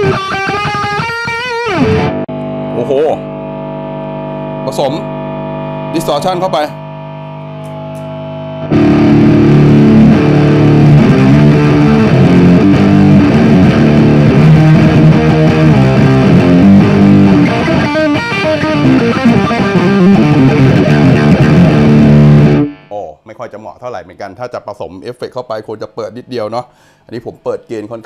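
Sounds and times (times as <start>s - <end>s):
distorted electric guitar: 0.0s - 22.9s.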